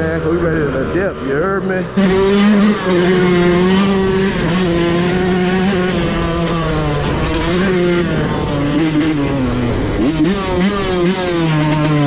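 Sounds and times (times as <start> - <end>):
dirt bike engine running: 1.4 - 12.0.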